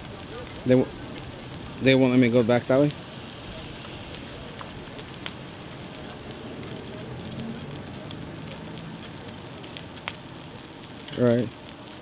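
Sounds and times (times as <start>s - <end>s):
brush fire crackling and hissing: 0.0s - 12.0s
fire popping: 0.0s - 12.0s.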